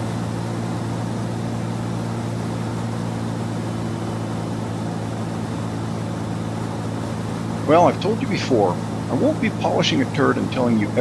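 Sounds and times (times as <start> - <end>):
car engine cruising: 0.0 - 11.0
road and wind noise: 0.0 - 11.0.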